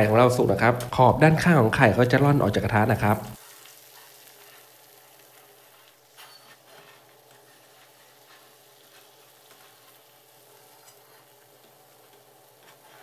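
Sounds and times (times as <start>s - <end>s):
egg sizzling in a wok: 2.2s - 13.0s.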